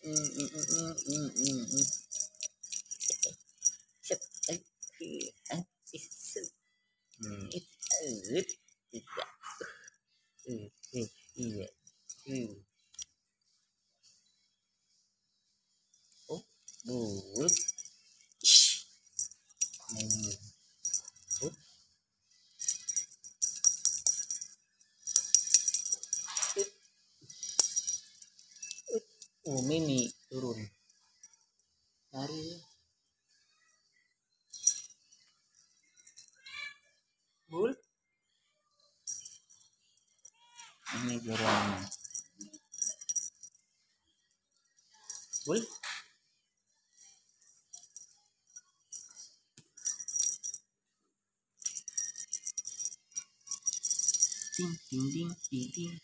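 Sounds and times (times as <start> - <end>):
small jingle bell jingling: 0.0 - 13.2, 15.7 - 50.7, 51.6 - 56.0.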